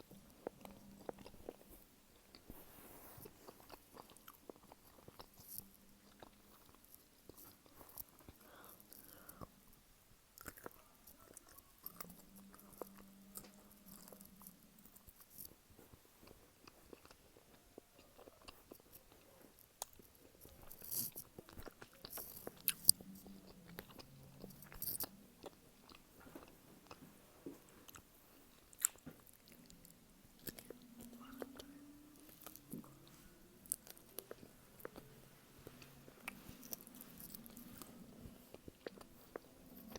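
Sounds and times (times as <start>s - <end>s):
chewing and biting: 0.0s - 9.5s, 10.3s - 39.9s.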